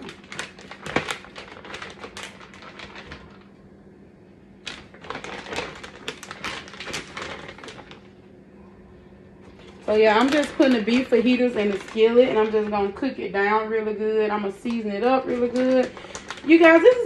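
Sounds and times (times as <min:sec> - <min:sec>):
plastic bag crinkling: 0:00.0 - 0:03.6, 0:04.6 - 0:08.2, 0:09.4 - 0:17.0.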